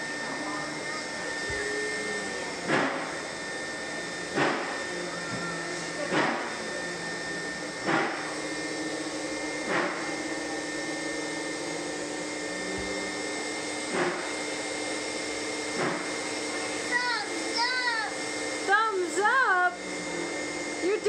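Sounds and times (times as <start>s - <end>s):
vacuum cleaner whining hum: 0.0s - 21.0s.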